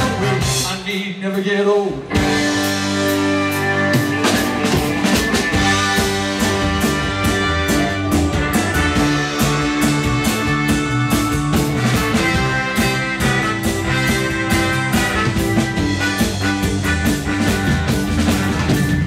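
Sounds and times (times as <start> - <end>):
horn section: 0.0 - 1.0, 2.1 - 19.0
drum kit beat: 0.0 - 1.4, 2.1 - 19.0
live rock band playing: 0.0 - 19.0.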